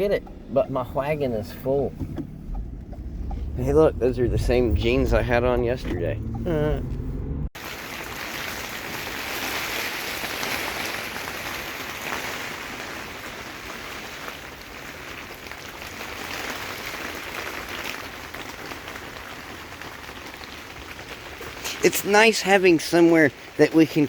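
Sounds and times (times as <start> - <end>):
ticks of raindrops: 0.0 - 7.0, 7.6 - 24.0
rain hissing: 0.0 - 24.0.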